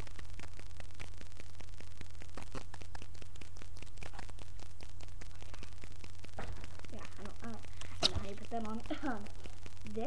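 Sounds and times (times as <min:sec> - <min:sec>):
microphone hum and static: 0:00.0 - 0:10.0.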